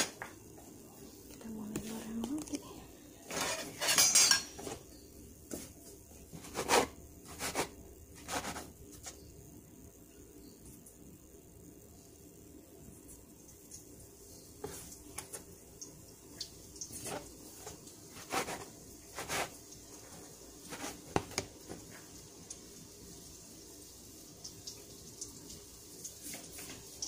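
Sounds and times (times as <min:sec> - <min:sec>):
dough sizzling in hot oil: 0:03.1 - 0:27.0.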